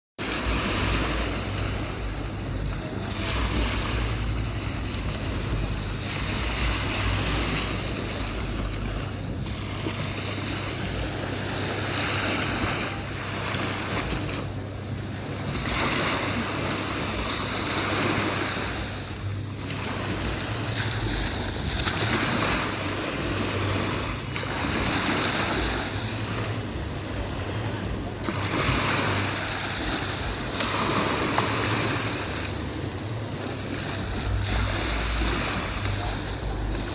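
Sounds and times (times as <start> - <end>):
sea surf washing on beach: 0.2 - 36.9
wind rumbling on microphone: 0.2 - 36.9.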